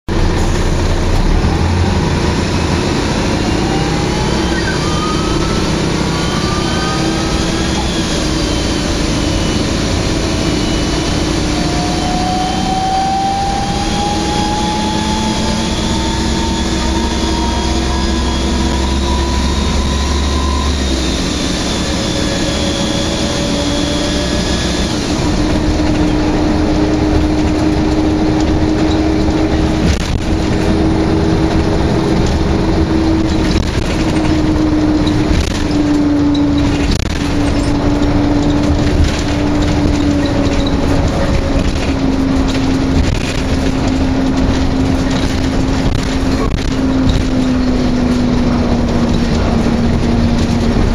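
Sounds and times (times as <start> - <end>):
bus engine drone: 0.0 - 50.9
road noise: 0.0 - 50.9
whine climbing in pitch: 0.1 - 50.9.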